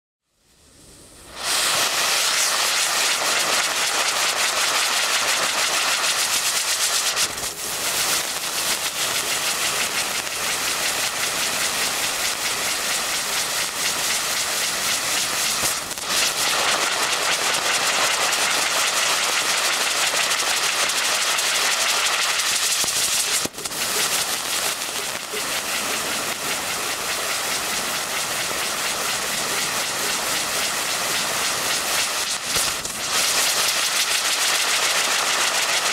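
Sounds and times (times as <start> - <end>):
firework wheel hissing: 0.3 - 35.9.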